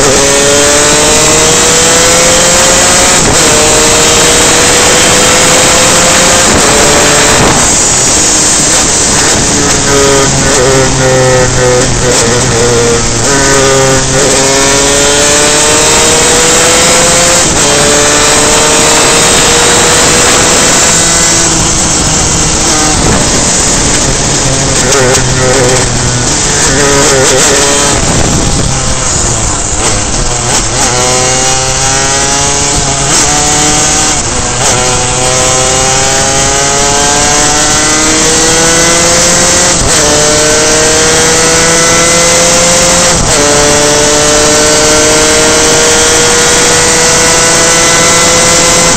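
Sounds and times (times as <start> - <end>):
kart engine at full throttle: 0.0 - 48.9.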